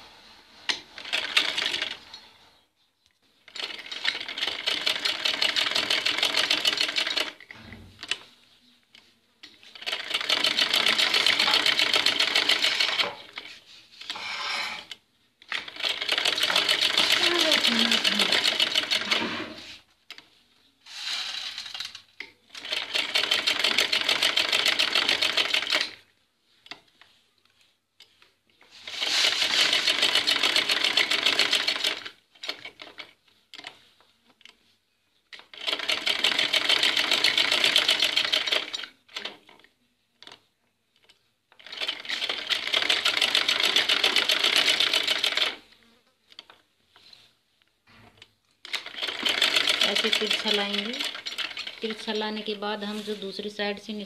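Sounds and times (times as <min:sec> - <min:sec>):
sewing machine stitching: 0:00.7 - 0:02.2, 0:03.4 - 0:08.3, 0:09.0 - 0:20.3, 0:20.9 - 0:26.1, 0:28.0 - 0:34.6, 0:35.3 - 0:40.4, 0:41.0 - 0:47.2, 0:48.2 - 0:53.0.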